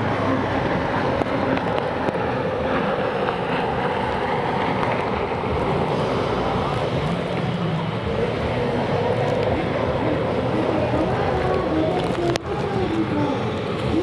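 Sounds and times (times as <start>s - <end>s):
jet ski engines droning: 0.0s - 14.0s
wind buffeting microphone: 0.0s - 14.0s.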